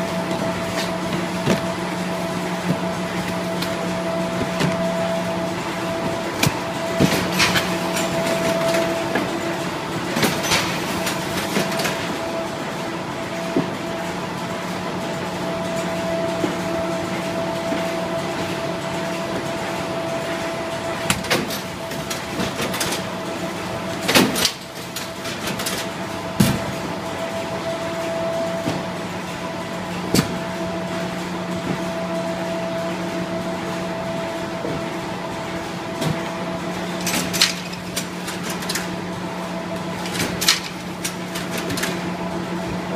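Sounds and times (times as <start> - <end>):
machine running with steady hum: 0.0 - 42.9.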